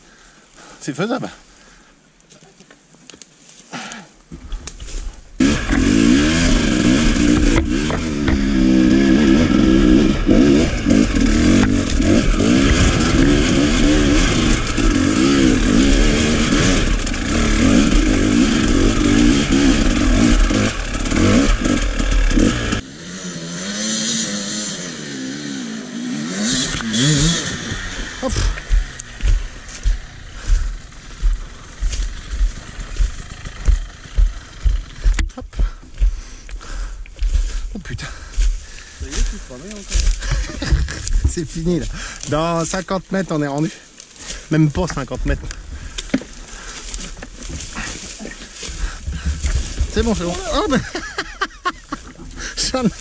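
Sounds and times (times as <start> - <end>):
motorcycle engine revving: 5.4 - 42.7, 43.7 - 53.0.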